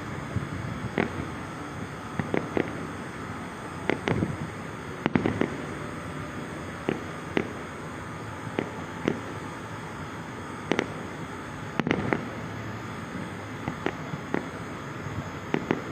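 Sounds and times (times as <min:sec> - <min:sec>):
steady background rumble: 0:00.0 - 0:15.9.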